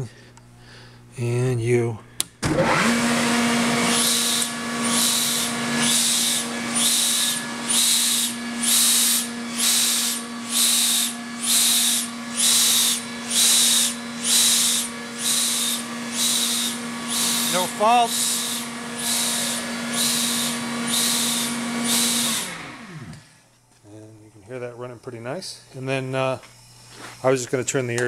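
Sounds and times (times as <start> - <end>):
air compressor motor hum: 2.2 - 23.6, 24.6 - 28.0.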